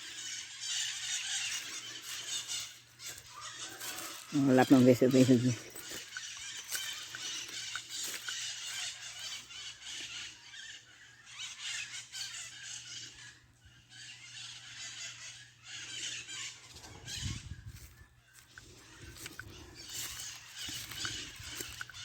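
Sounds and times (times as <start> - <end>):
parrots screeching: 0.0 - 22.0.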